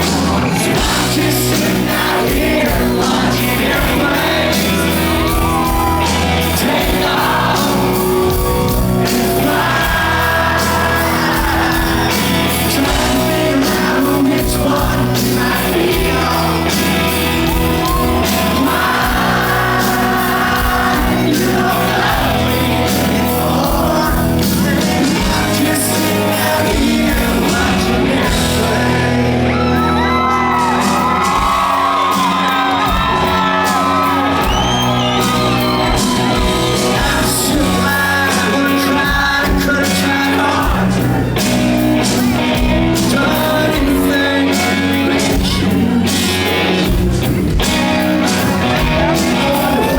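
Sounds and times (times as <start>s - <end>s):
country band playing live: 0.0s - 49.9s
crowd shouting and whooping: 0.0s - 49.9s
man singing: 0.0s - 49.9s.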